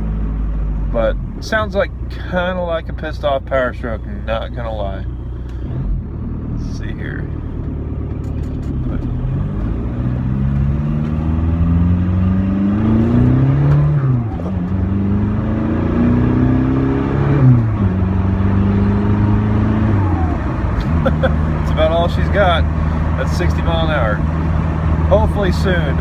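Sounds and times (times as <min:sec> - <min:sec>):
diesel car accelerating hard: 0:00.0 - 0:26.0.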